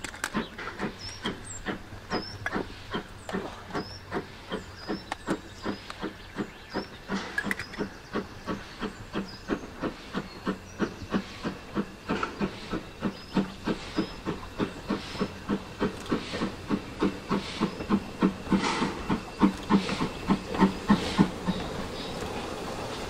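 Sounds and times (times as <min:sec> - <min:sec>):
steam locomotive chuffing: 0:00.0 - 0:23.0.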